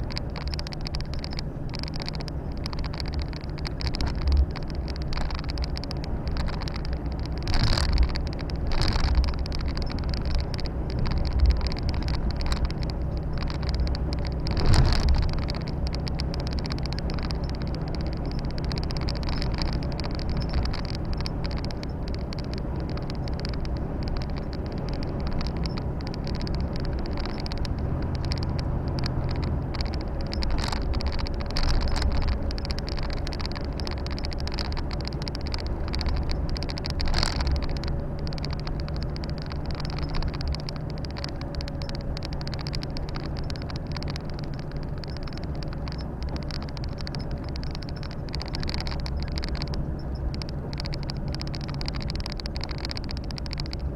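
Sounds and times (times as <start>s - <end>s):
road and tyre noise: 0.0s - 53.9s
truck diesel engine running: 0.0s - 53.9s.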